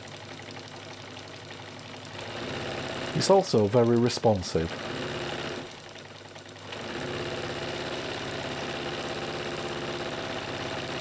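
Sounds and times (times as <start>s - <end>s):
sewing machine stitching: 2.0s - 11.0s.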